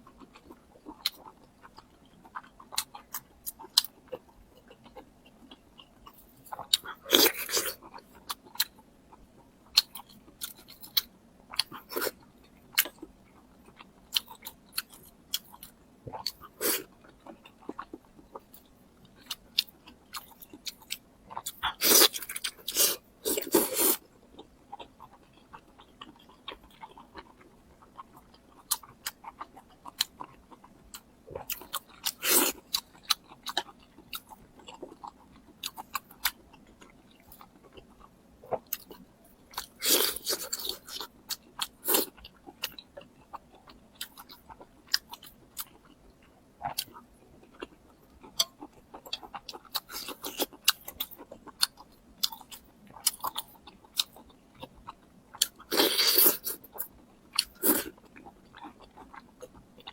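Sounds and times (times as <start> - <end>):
chewing food: 0.0 - 59.9.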